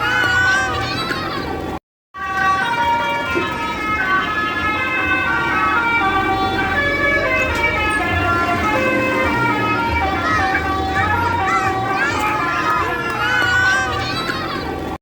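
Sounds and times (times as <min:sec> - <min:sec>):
multi-tone bus air horn melody: 0:00.0 - 0:15.0.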